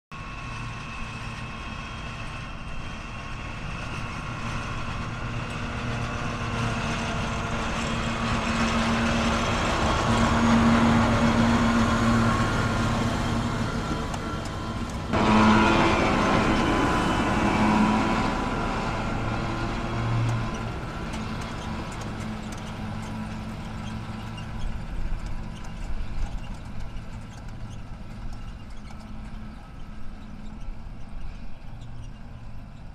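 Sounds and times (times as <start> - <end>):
tractor diesel engine under load: 0.2 - 32.9.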